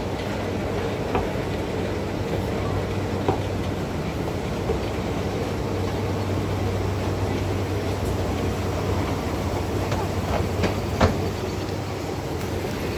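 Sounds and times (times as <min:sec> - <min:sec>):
escalator humming and rumbling: 0:00.0 - 0:12.9.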